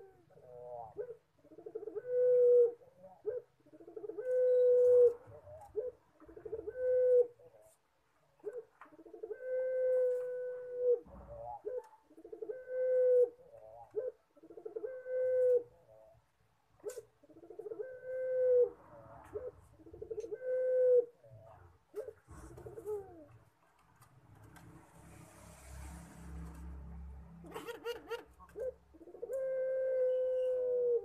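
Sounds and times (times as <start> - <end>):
dove cooing: 0.0 - 7.7, 8.4 - 16.2, 16.8 - 23.4, 27.4 - 31.0.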